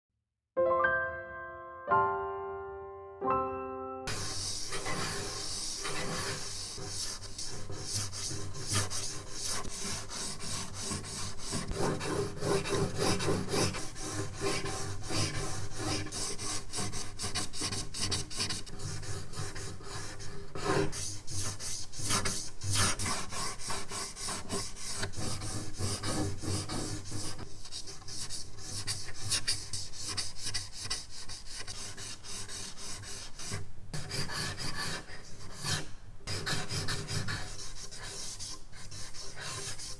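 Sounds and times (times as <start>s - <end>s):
charcoal scratching on paper: 4.1s - 39.9s.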